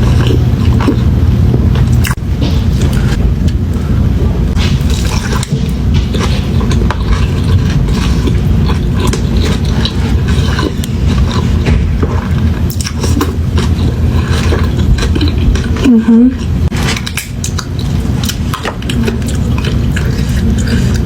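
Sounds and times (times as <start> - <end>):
constant low rumble: 0.0 - 21.0
crunchy chewing and biting: 0.0 - 21.0.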